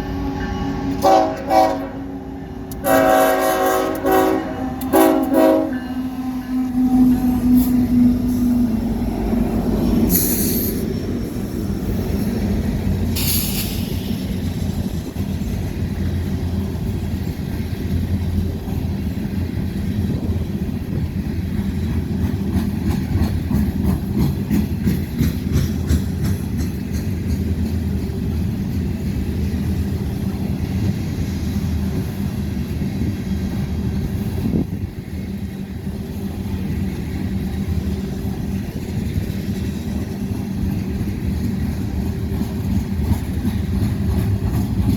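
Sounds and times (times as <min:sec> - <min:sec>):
freight train cars rumbling: 0:00.0 - 0:44.9.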